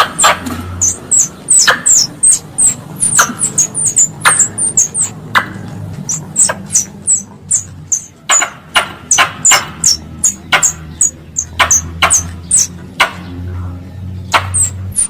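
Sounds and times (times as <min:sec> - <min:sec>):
squirrel chirping call: 0:00.0 - 0:12.8, 0:14.3 - 0:15.0.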